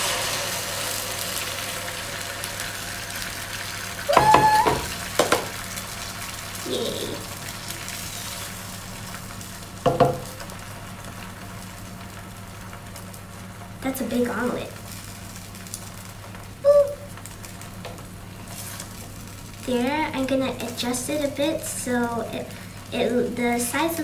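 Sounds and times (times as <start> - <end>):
egg sizzling in hot oil: 0.0 - 24.0.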